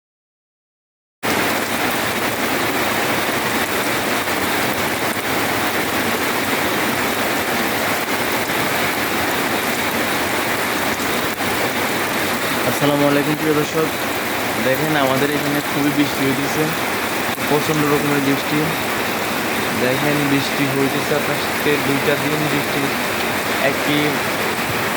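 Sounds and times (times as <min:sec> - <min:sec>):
heavy rain pouring: 0:01.2 - 0:24.9.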